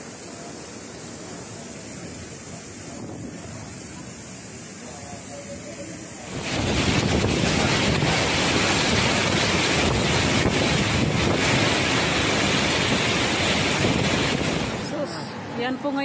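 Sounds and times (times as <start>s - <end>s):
rushing river: 0.0s - 16.0s
strong wind buffeting microphone: 0.8s - 5.2s, 5.8s - 15.7s.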